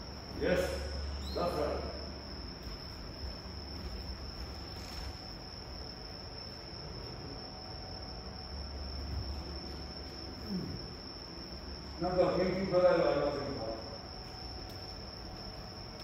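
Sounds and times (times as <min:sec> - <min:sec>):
crickets trilling: 0:00.0 - 0:16.0
low background hum: 0:00.0 - 0:16.0.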